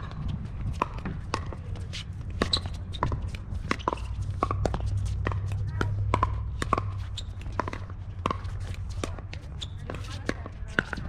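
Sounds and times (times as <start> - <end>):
ball bouncing on hard court: 0.0 - 11.0
shoes scuffing on court: 0.0 - 11.0.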